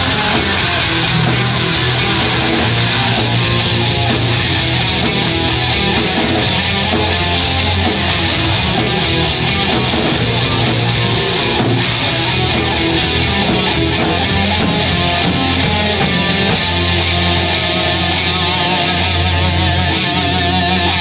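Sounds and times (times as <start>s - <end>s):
live metal band playing: 0.0s - 21.0s.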